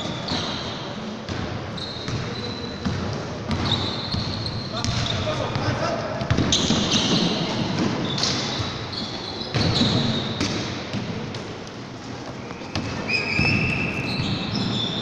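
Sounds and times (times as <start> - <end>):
sneakers squeaking on court: 0.0 - 15.0.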